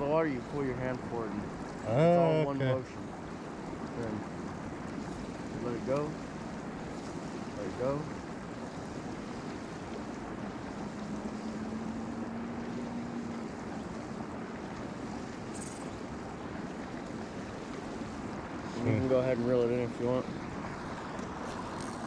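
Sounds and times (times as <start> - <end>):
faint steady hum: 0.0 - 22.0
water noise: 0.0 - 22.0.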